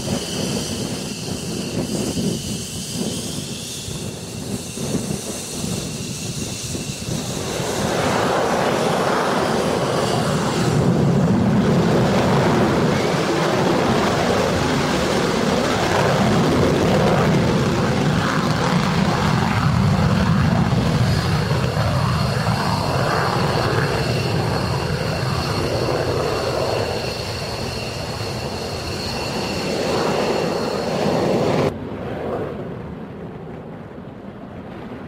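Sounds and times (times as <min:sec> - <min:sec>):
jet afterburner roar: 0:00.0 - 0:35.0
jet engines on takeoff: 0:00.0 - 0:35.0.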